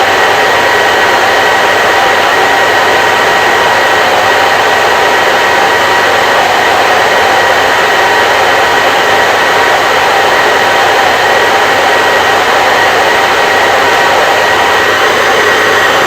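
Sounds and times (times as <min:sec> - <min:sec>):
hair dryer blowing air: 0:00.0 - 0:16.0.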